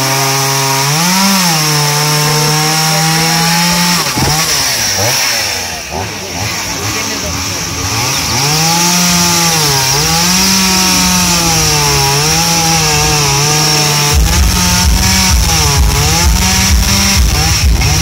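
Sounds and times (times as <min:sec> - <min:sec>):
chainsaw cutting a log: 0:00.0 - 0:18.0.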